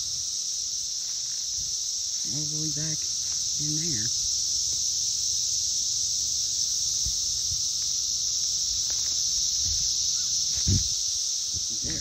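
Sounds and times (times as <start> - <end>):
cicadas buzzing: 0.0 - 12.0.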